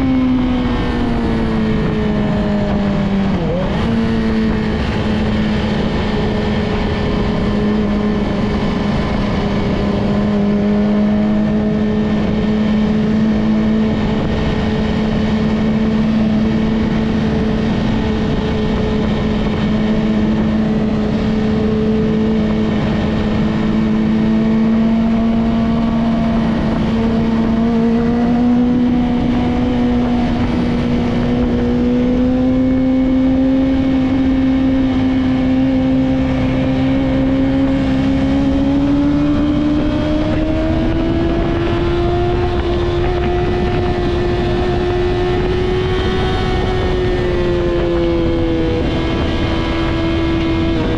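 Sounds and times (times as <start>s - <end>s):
motorcycle engine at high revs: 0.0s - 50.9s.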